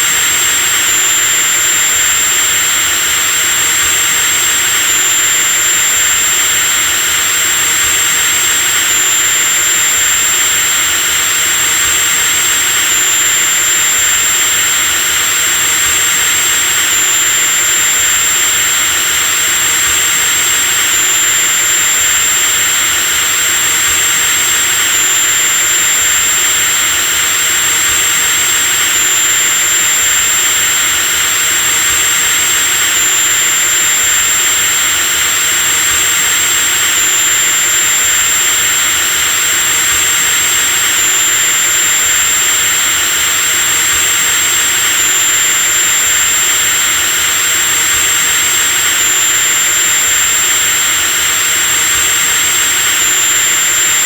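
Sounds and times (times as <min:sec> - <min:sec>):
electric drill running: 0:00.0 - 0:54.0.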